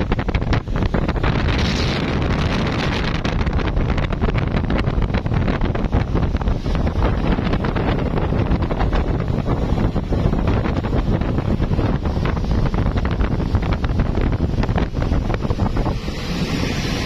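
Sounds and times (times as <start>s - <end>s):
speedboat engine: 0.0s - 17.0s
water rushing: 0.0s - 17.0s
wind buffeting microphone: 0.0s - 17.0s.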